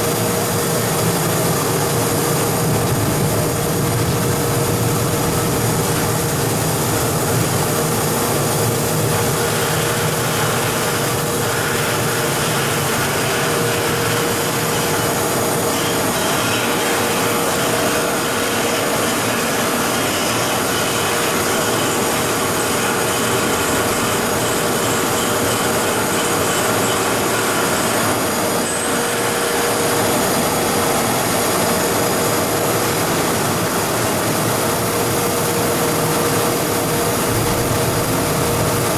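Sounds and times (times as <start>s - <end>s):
industrial machine running: 0.0s - 38.9s
machine whine: 0.0s - 38.9s.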